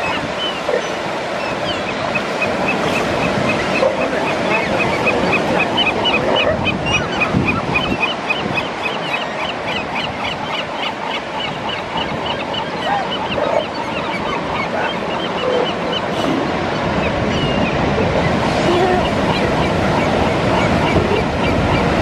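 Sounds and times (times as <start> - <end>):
surf washing: 0.0 - 22.0.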